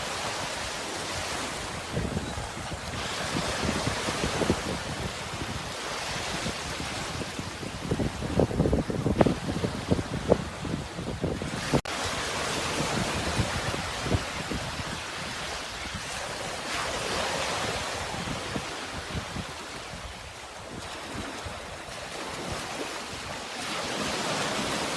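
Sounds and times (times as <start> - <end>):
sea waves washing in: 0.0 - 24.9
wind: 0.0 - 24.9.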